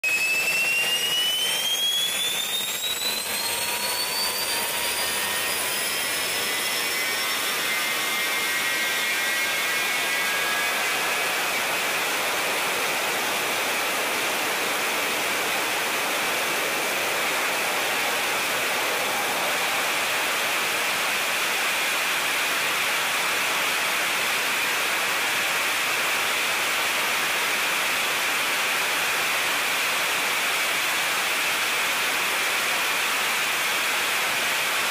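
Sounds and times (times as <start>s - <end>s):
jet engine whine and roar: 0.0s - 34.9s.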